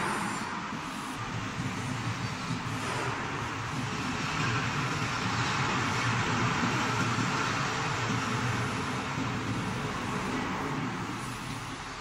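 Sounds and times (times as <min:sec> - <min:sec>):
workshop equipment whirring: 0:00.0 - 0:12.0.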